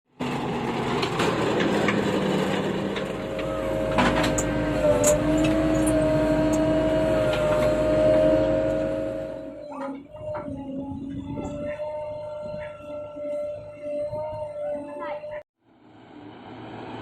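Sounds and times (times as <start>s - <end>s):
diesel engine rumbling: 0.1s - 17.0s
steady engine whine: 0.1s - 17.0s.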